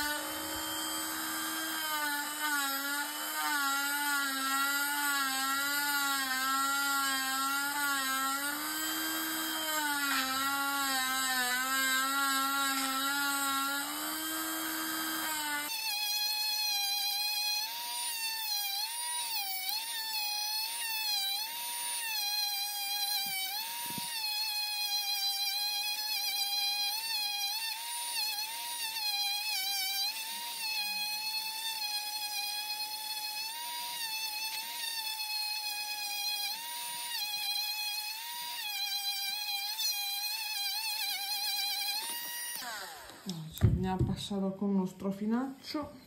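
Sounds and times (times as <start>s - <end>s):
rotary tool motor whine: 0.0s - 43.7s.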